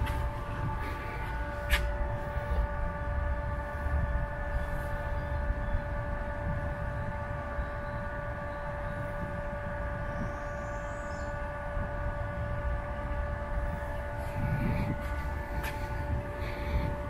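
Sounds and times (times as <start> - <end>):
low rumble: 0.0 - 17.0
steady mechanical hum: 0.0 - 17.0.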